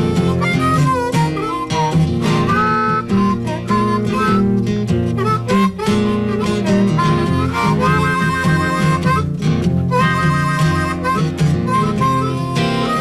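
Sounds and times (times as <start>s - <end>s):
acoustic guitar accompaniment: 0.0s - 13.0s
harmonica melody: 0.0s - 13.0s.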